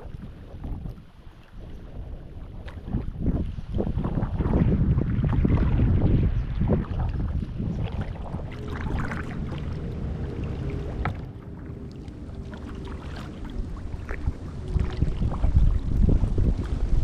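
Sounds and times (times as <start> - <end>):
wind on microphone: 0.0 - 17.0
kayak paddle splashing water: 0.8 - 17.0.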